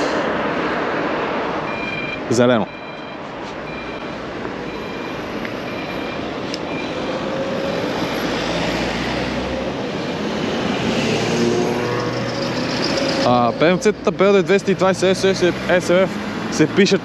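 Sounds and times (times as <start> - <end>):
busy street traffic: 0.0 - 17.0.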